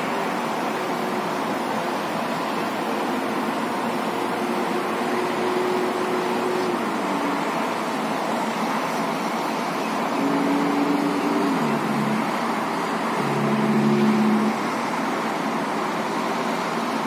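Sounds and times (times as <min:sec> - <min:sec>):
passing vehicle engine hum: 0:00.0 - 0:16.9
road traffic noise: 0:00.0 - 0:17.0.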